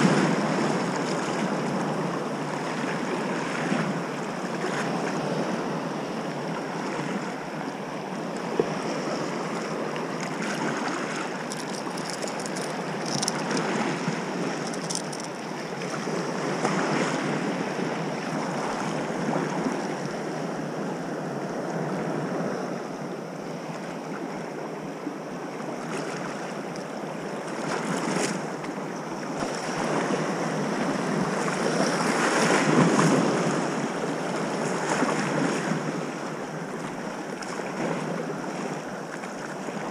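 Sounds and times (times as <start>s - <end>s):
small waves lapping in shallow water: 0.0s - 39.9s.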